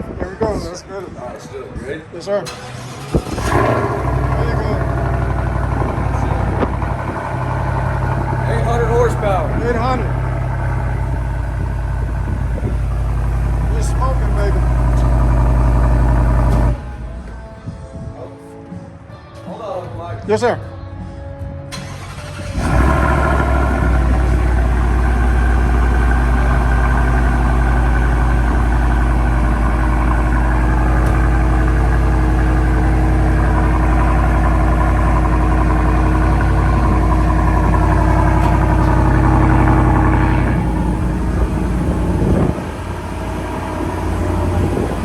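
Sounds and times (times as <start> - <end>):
truck engine idling loudly: 2.5 - 17.3, 21.7 - 45.0.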